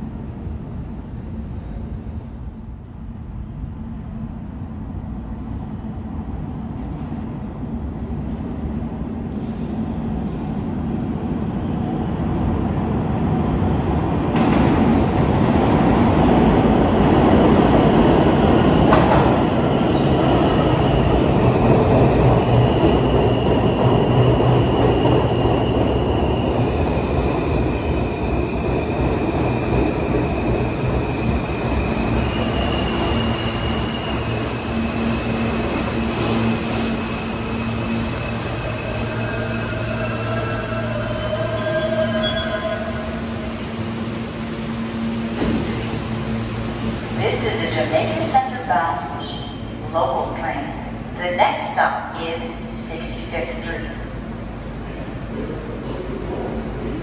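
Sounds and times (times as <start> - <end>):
subway train rumble: 0.0 - 57.0.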